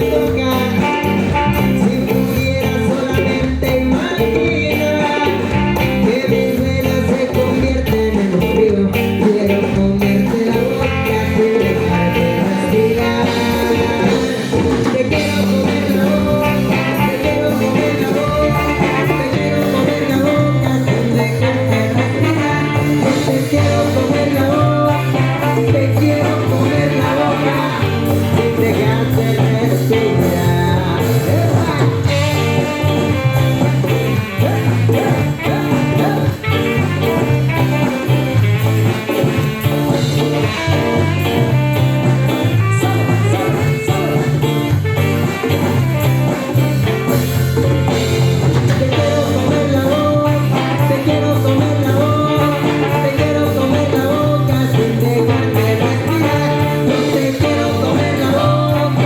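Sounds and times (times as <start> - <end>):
guitar: 0.0 - 59.0
live band playing pop: 0.0 - 59.0.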